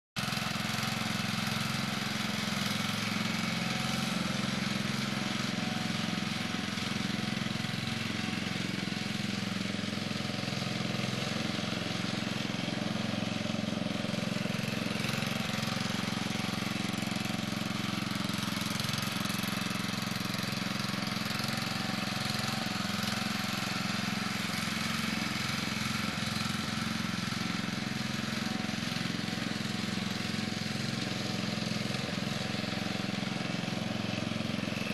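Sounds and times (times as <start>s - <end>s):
riding mower engine running: 0.2s - 34.9s.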